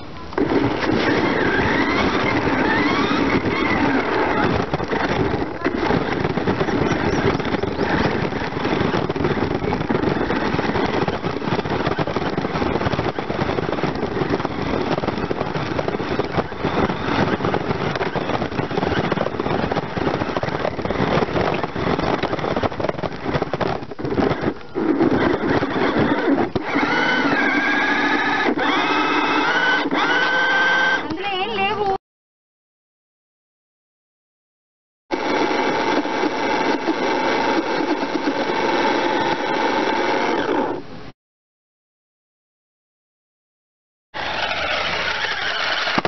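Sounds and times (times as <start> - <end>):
wheels and chassis rattling: 0.0 - 32.0, 35.1 - 41.1, 44.2 - 46.0
toy car motor: 0.3 - 31.1, 35.1 - 40.8, 44.2 - 46.0.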